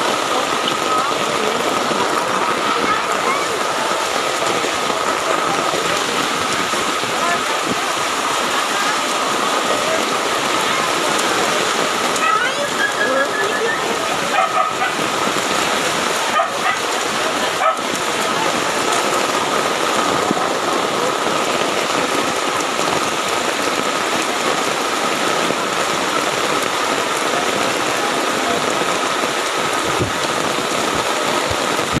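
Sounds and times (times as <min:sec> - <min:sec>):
heavy rain: 0:00.0 - 0:32.0
water running over road: 0:00.0 - 0:32.0.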